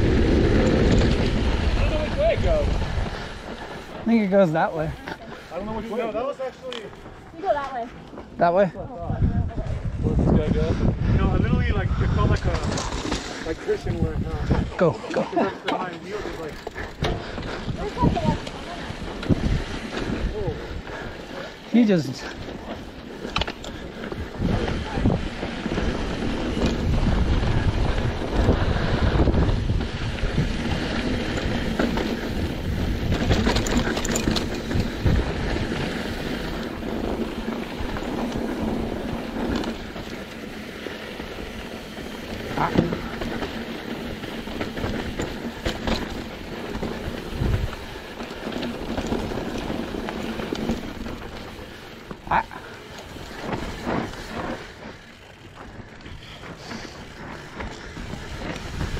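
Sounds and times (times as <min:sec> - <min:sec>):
wind buffeting microphone: 0:00.0 - 0:05.9, 0:08.2 - 0:15.4, 0:16.2 - 0:58.9
bike rattle: 0:00.0 - 0:08.3, 0:11.9 - 0:58.9.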